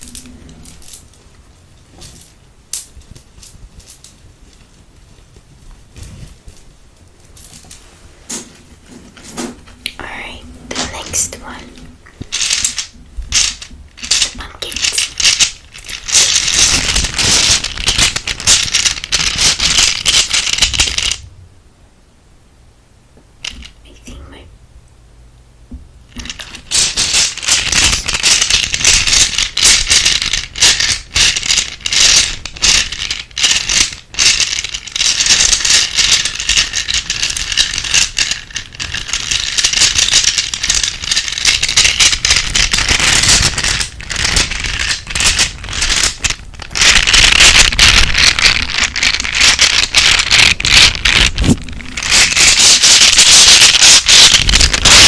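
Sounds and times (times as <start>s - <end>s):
scratching and rattling object: 0.0s - 21.4s, 26.1s - 55.0s.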